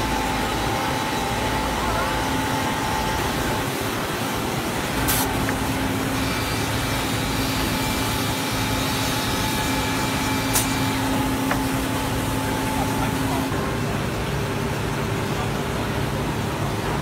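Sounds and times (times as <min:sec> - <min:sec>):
woodworking machinery whirring: 0:00.0 - 0:15.7.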